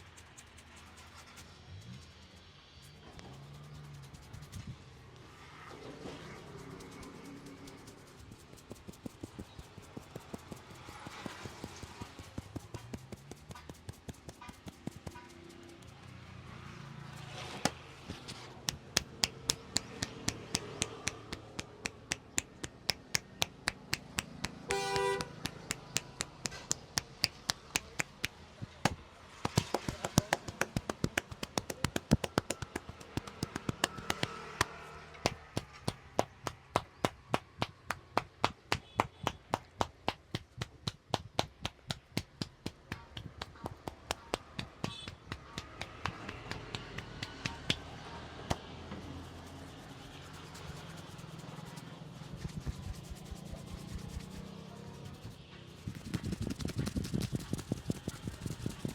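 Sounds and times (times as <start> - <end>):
hands tapping and slapping head: 6.8 - 15.9, 17.6 - 48.7, 50.1 - 58.9.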